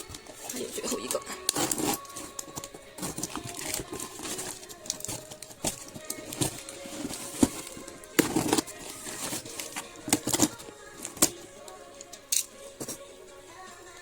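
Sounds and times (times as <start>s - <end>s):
packaging clicks and taps: 0.0s - 13.1s
faint background music: 0.0s - 14.0s
plastic rustling: 0.0s - 14.0s.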